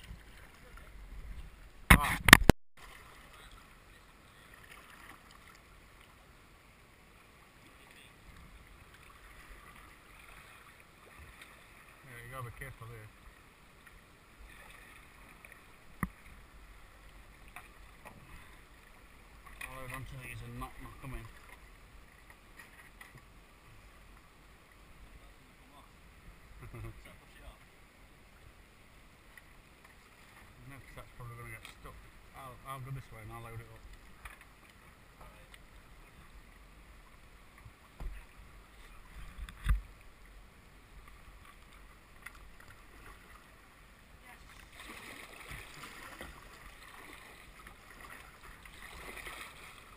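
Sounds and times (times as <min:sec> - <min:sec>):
running water around a kayak: 0:00.0 - 0:49.9.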